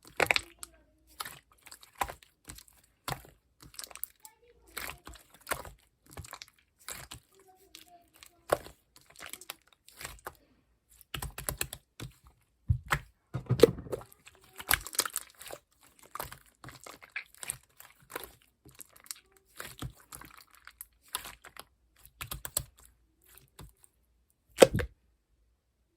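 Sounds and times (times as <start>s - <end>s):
slime clicking and crackling: 0.0s - 13.0s, 14.0s - 23.8s
slime squelches: 0.0s - 25.0s.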